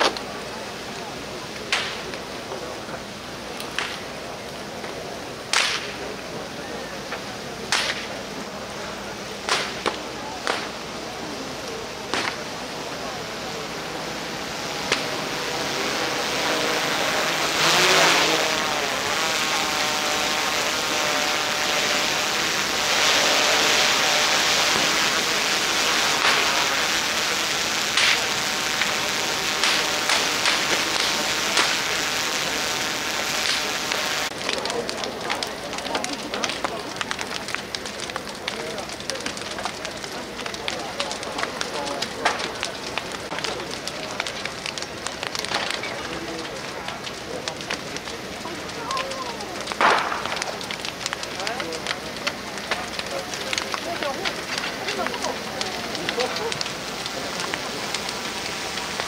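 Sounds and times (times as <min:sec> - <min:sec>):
bonfire flames rushing: 0:00.0 - 0:59.0
loud sharp cracks of fire: 0:00.0 - 0:59.0.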